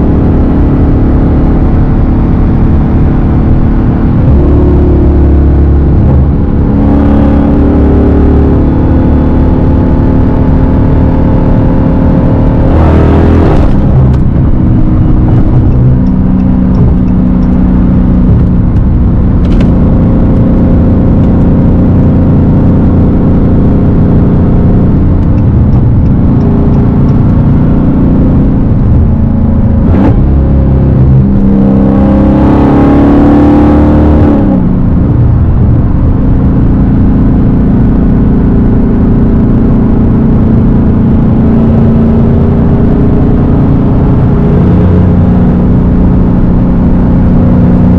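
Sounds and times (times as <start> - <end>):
loud car engine accelerating: 0.0 - 47.9.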